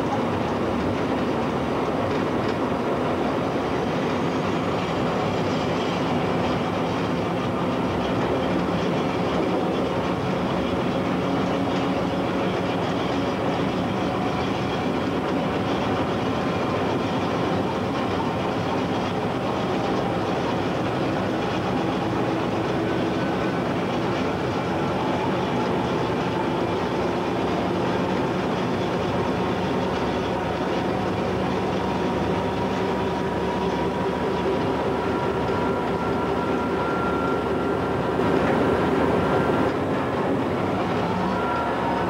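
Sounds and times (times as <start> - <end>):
locomotive engine drone: 0.0 - 42.0
wheel-on-rail noise: 0.0 - 42.0.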